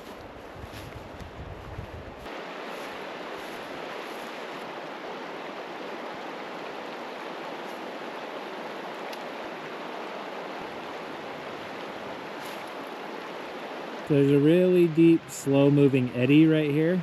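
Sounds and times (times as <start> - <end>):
river rushing over rocks: 2.3 - 16.8.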